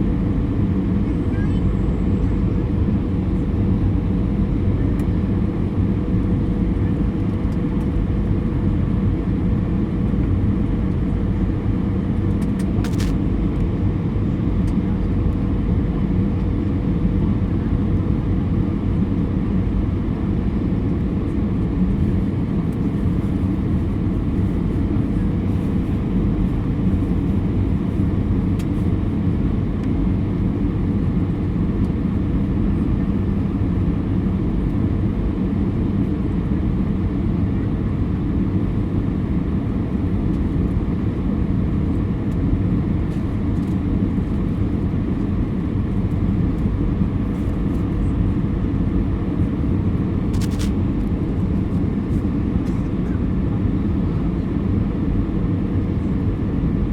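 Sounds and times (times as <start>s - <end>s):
airliner cabin engine rumble: 0.0s - 56.9s.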